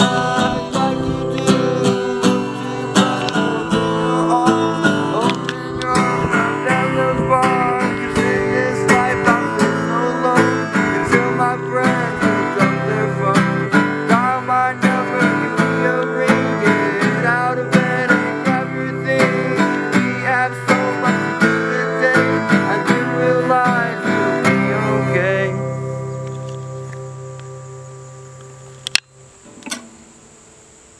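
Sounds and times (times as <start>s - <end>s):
man singing: 0.0s - 26.0s
acoustic guitar strumming: 0.0s - 30.9s.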